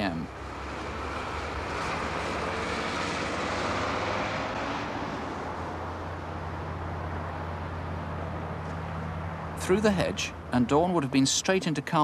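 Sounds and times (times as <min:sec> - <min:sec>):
low steady traffic hum: 0:00.0 - 0:12.0
vehicles passing: 0:00.0 - 0:12.0.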